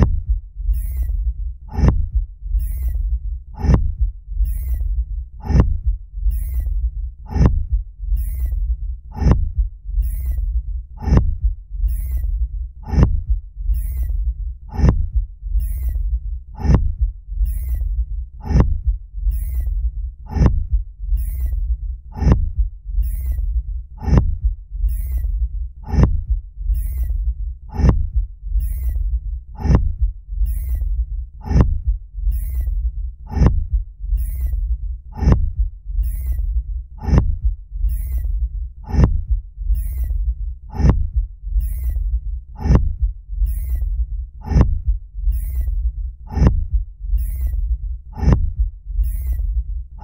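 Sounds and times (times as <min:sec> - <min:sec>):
constant low rumble: 0:00.0 - 0:50.0
heavy rhythmic thumping: 0:00.0 - 0:50.0.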